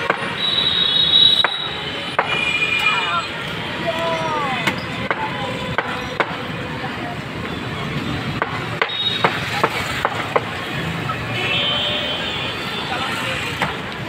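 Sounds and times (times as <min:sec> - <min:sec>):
street market noise: 0:00.0 - 0:14.0.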